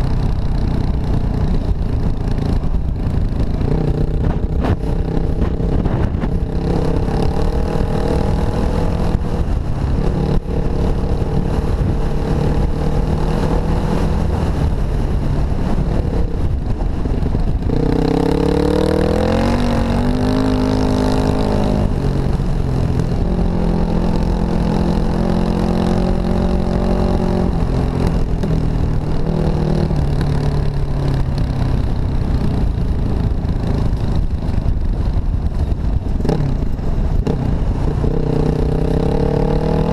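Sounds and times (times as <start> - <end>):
dirt bike engine running: 0.0 - 39.9
road and wind noise: 0.0 - 39.9.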